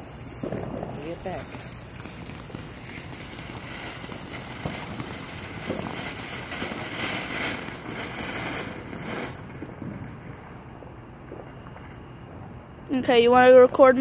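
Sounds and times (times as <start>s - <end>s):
firework fountain hissing: 0.0s - 11.9s.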